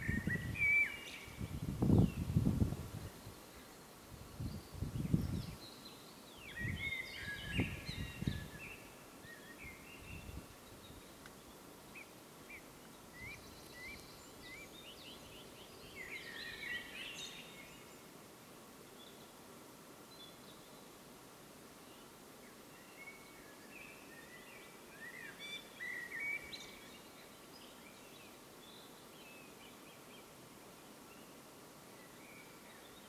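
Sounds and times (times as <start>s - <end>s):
songbirds singing: 0.0s - 33.0s
steady outdoor hiss: 0.0s - 33.0s.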